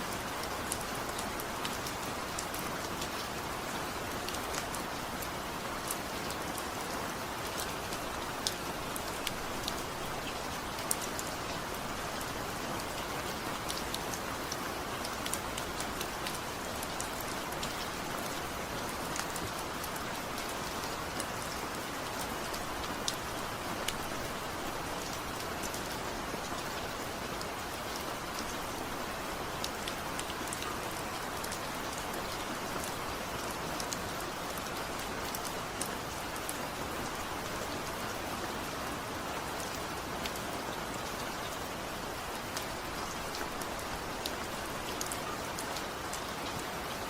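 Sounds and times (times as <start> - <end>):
heavy rain pattering: 0.0 - 47.0.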